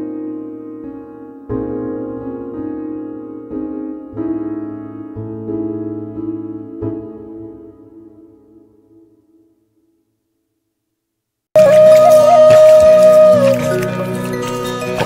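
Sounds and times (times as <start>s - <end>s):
slow piano chords: 0.0s - 9.8s, 11.6s - 15.0s.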